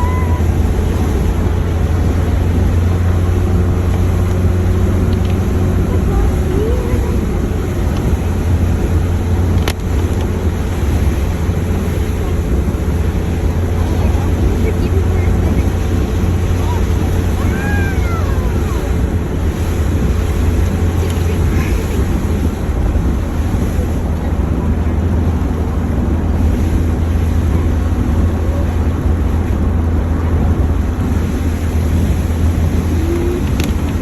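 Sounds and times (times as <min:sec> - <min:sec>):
vehicle road and engine rumble: 0:00.0 - 0:34.0
wind noise on microphone: 0:00.0 - 0:34.0.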